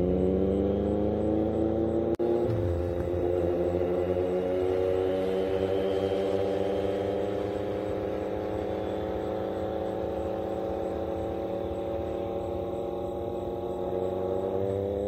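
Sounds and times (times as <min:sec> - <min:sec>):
engine droning hum: 0:00.0 - 0:15.0.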